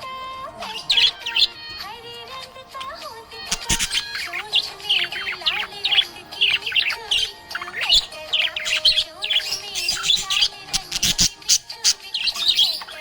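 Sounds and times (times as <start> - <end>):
budgerigar chirping and warbling: 0.3 - 13.0.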